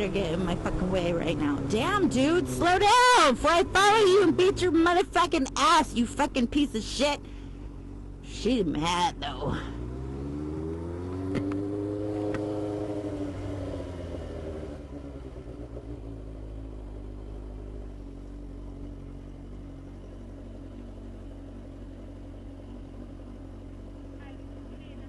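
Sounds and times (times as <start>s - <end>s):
motorcycle engine revving and idling: 0.0s - 25.0s.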